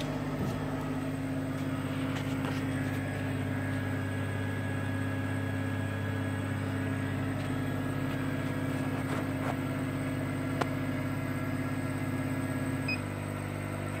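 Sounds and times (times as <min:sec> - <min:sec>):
machine fans humming: 0:00.0 - 0:14.0.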